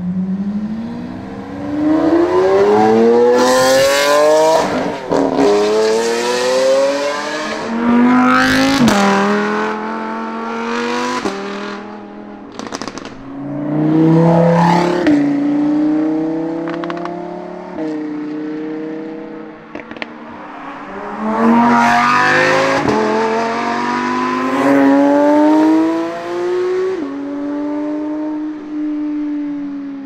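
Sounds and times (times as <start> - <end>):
car passing loud: 0.0 - 28.7
sports car accelerating: 0.0 - 30.0.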